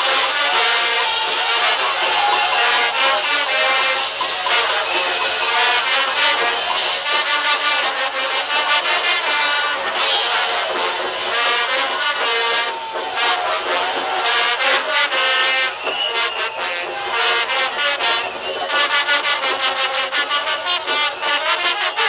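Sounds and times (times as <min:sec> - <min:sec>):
brass band playing dance music: 0:00.0 - 0:22.0.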